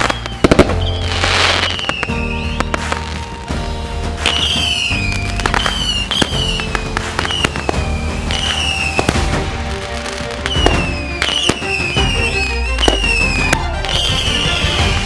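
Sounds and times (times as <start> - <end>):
background music: 0.0 - 15.0
fireworks bangs and pops: 0.0 - 15.0
fireworks falling whistles: 0.0 - 15.0.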